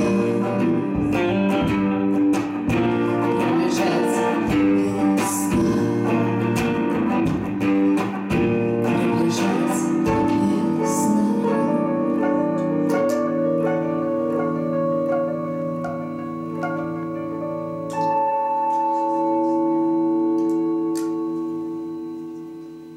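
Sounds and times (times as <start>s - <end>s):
electric guitar ringing chords: 0.0s - 22.9s.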